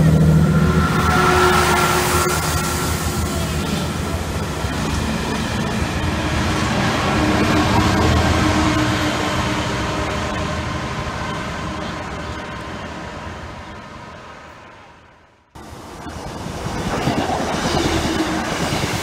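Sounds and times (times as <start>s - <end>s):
diesel locomotive engine working: 0.0s - 19.0s
train rumbling on track: 0.0s - 19.0s.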